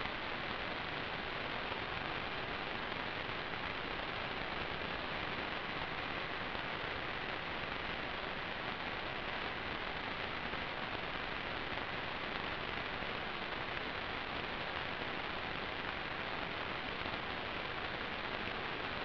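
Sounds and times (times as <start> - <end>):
static hiss: 0.0 - 19.0.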